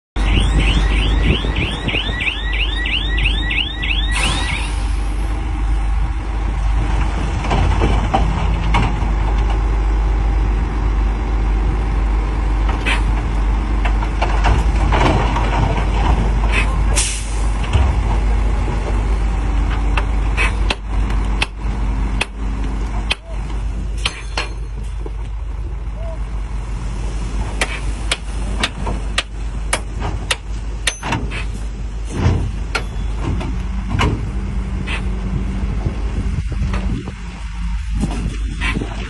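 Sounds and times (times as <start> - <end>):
heavy machinery rumbling: 0.2 - 39.0.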